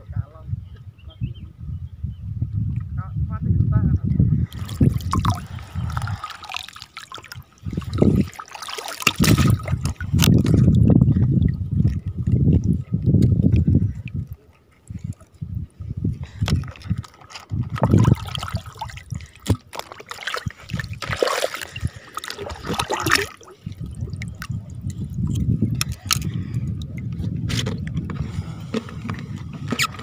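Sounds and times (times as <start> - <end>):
water sloshing from wading: 4.5 - 30.0.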